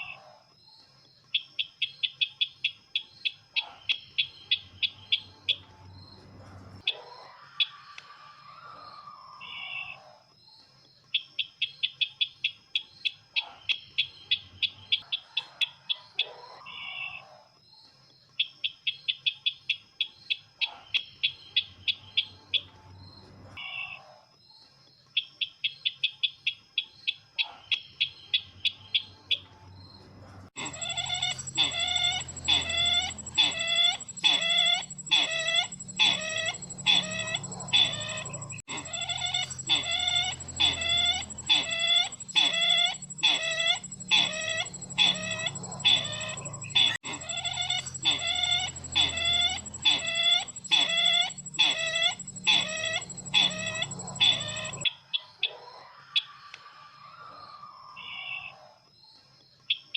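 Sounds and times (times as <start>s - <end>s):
recorded bird calls chattering: 0.0s - 8.1s, 8.7s - 30.0s, 30.6s - 55.5s.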